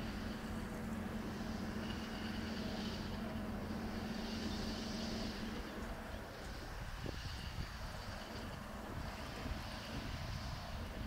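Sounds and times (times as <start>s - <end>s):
distant vehicle engines humming: 0.0s - 11.0s.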